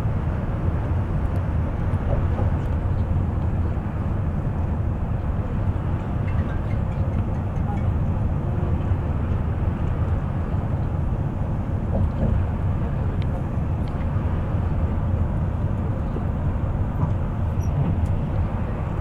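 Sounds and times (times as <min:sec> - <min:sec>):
bus engine and tyre rumble: 0:00.0 - 0:19.0.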